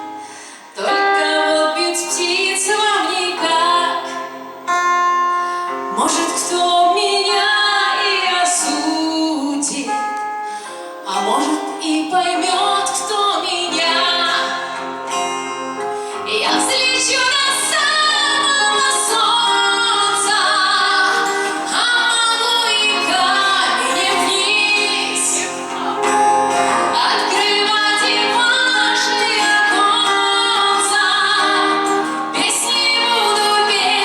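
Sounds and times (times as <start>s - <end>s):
woman singing: 0.0s - 4.4s, 5.9s - 10.3s, 11.0s - 15.2s, 16.1s - 34.0s
musical accompaniment: 0.0s - 34.0s.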